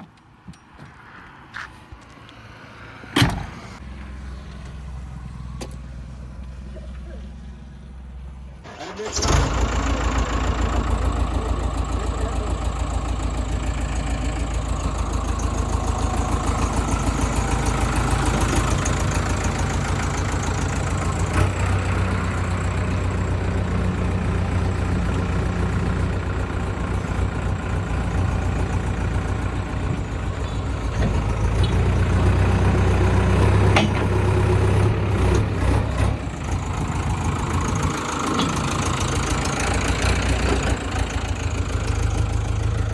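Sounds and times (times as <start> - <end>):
diesel engine running: 3.3 - 42.9.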